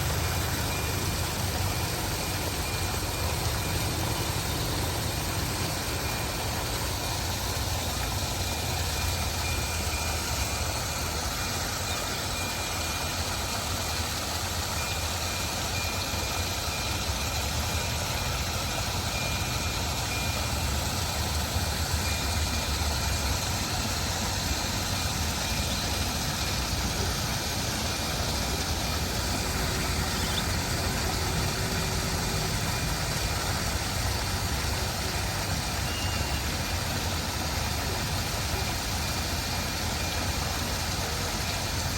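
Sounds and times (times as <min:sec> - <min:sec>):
water rushing: 0:00.0 - 0:41.9.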